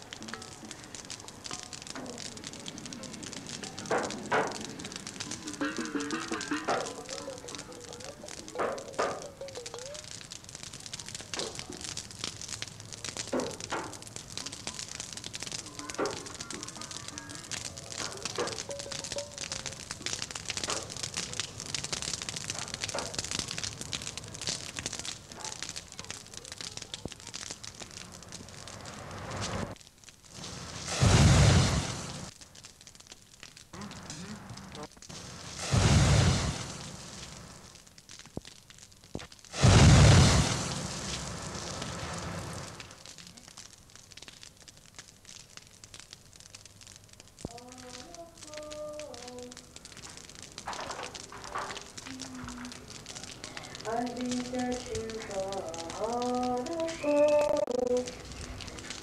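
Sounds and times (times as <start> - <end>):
torch flames crackling: 0.0 - 59.0.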